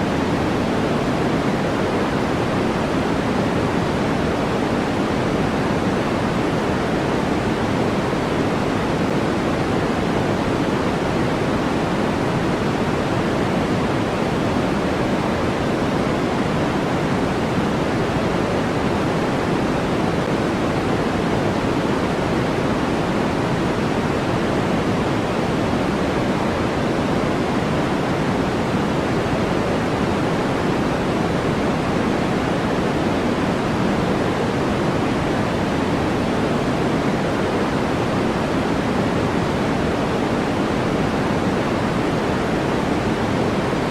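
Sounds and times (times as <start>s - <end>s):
deep white noise hiss: 0.0s - 43.9s.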